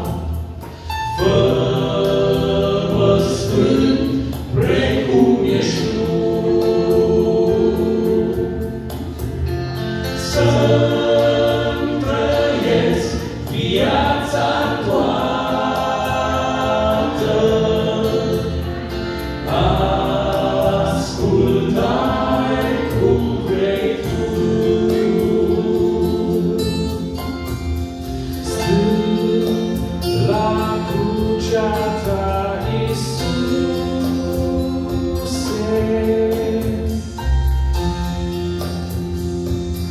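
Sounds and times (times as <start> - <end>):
male vocal quartet singing: 0.0 - 39.9.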